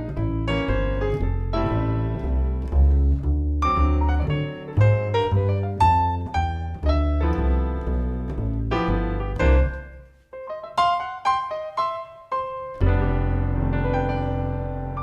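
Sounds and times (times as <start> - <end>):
low bass line: 0.0 - 10.0, 12.8 - 15.0
piano notes: 0.0 - 15.0.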